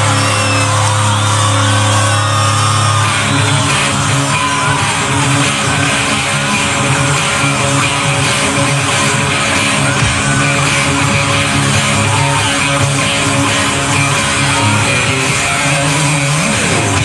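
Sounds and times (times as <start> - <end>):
live rock band playing: 0.0 - 17.0
strummed electric guitar riff: 0.0 - 17.0.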